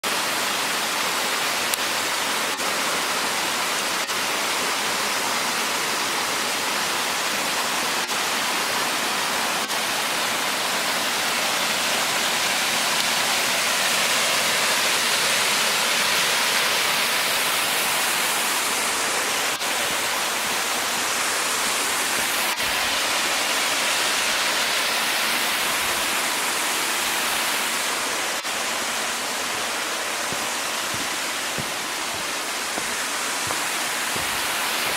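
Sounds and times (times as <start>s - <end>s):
waterfall rushing over rocks: 0.0s - 34.9s.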